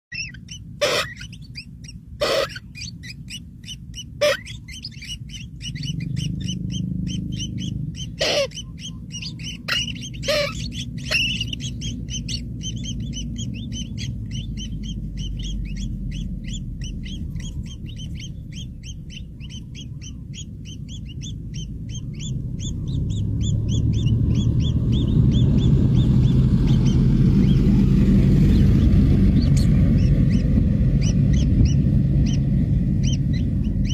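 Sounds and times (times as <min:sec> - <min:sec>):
birds chirping: 0:00.1 - 0:33.9
low rumble: 0:00.1 - 0:33.9.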